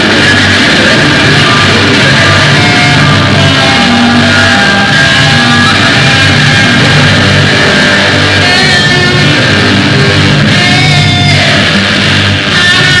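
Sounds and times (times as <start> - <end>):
distorted rock music: 0.0 - 13.0.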